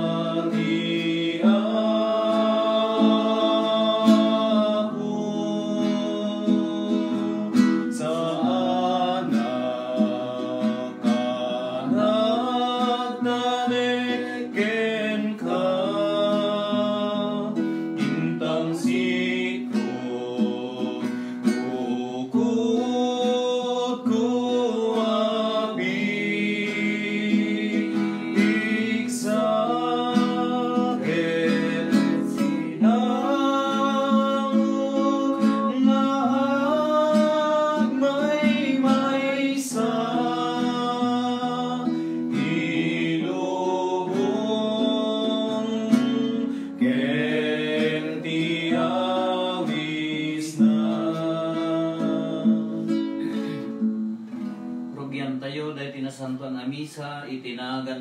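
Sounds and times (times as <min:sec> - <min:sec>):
person singing a hymn: 0:00.0 - 0:54.1
strummed acoustic guitar: 0:00.0 - 0:56.6.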